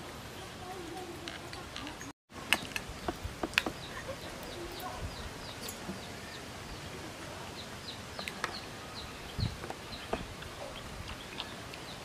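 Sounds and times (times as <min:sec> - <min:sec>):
background noise: 0:00.0 - 0:12.0
bird chirping: 0:01.8 - 0:12.0.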